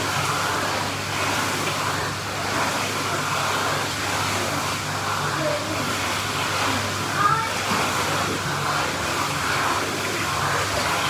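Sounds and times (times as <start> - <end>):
churning pool water: 0.0 - 11.0.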